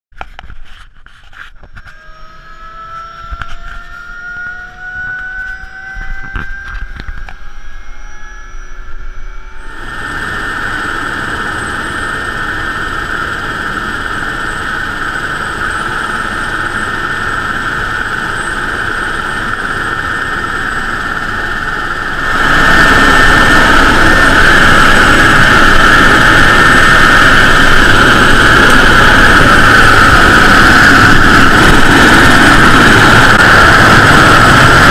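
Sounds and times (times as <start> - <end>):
helicopter in flight din: 0.2 - 34.9
helicopter engines spooling up: 1.3 - 34.9.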